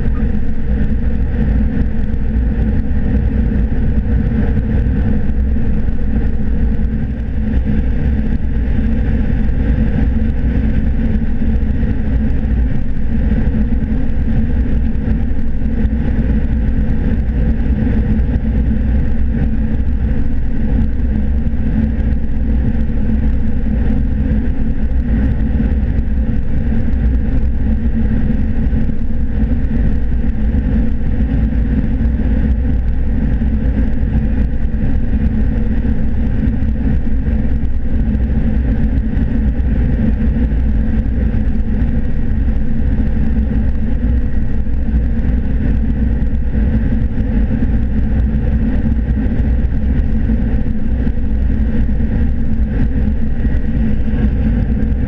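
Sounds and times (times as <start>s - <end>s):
combine harvester drone: 0.0s - 55.0s.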